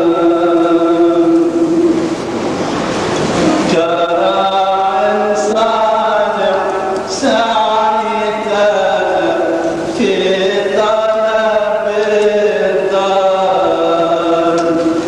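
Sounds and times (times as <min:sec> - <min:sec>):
man chanting: 0:00.0 - 0:02.1, 0:03.6 - 0:15.0.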